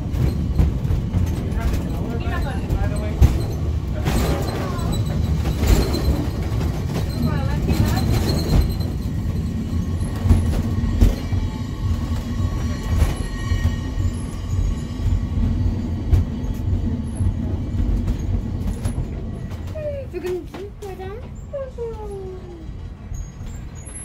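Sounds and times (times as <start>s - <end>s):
funicular car rumbling on rails: 0.0s - 24.0s.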